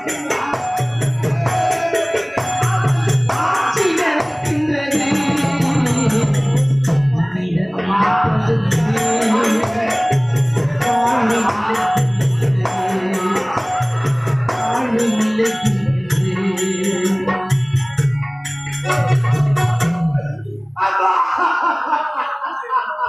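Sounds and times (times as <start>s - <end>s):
rattling jingling percussion beat: 0.0s - 7.4s, 8.4s - 20.5s.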